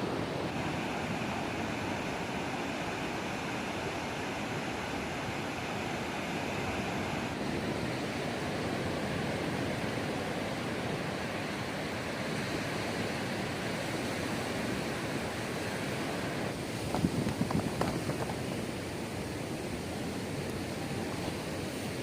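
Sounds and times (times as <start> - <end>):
sea surf breaking on beach: 0.0 - 22.0.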